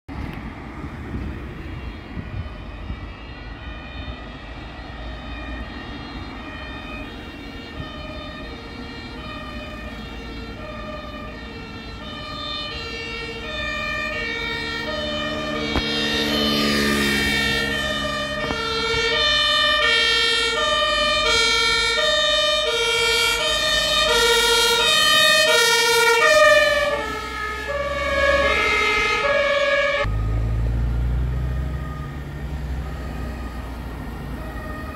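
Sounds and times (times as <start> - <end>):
two-tone emergency sirens: 0.1 - 34.9
vehicle passing with tyre noise: 0.1 - 34.9.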